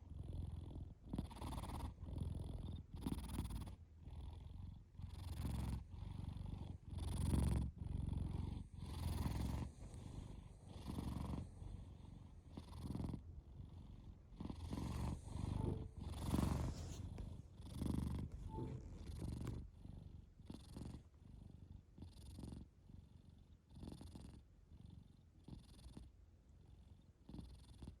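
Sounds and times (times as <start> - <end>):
cat snoring: 0.0 - 28.0.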